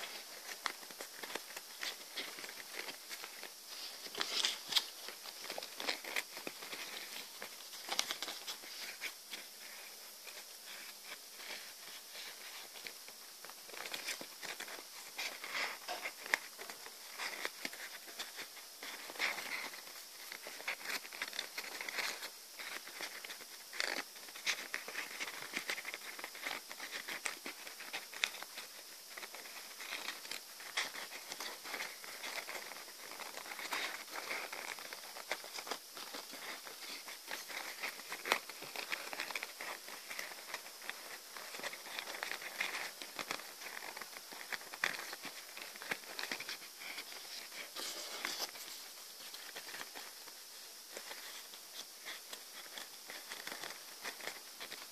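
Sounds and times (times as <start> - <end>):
paper rustling and crinkling: 0.0 - 54.9
small clicks and scratches: 0.0 - 54.9.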